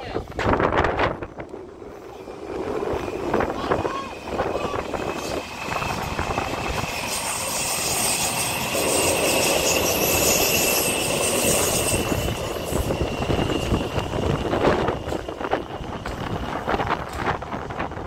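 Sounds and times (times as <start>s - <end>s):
electric train rumbling past: 0.0s - 18.0s.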